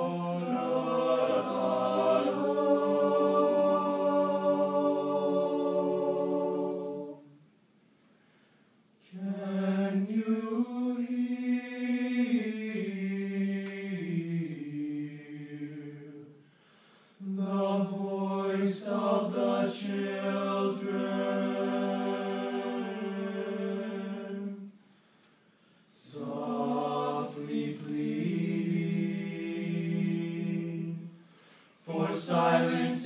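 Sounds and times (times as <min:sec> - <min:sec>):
male a cappella harmony singing: 0:00.0 - 0:07.4, 0:09.0 - 0:16.4, 0:17.2 - 0:24.7, 0:25.9 - 0:33.0.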